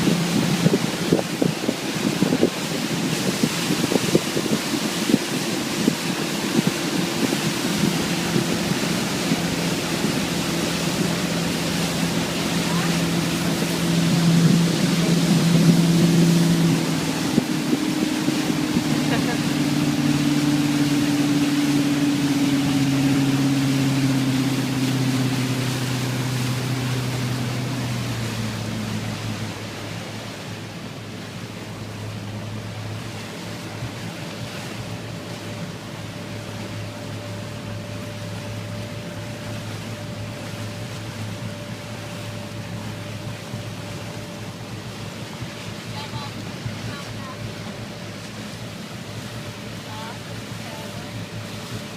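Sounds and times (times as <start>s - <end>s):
wind buffeting microphone: 0.0s - 48.0s
motorboat engine drone: 0.0s - 51.9s
rushing wind and water: 0.0s - 51.9s.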